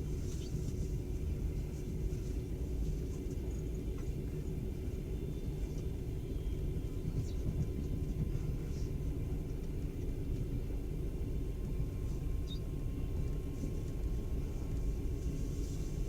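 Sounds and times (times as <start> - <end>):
train carriage rumbling on rails: 0.0 - 16.0.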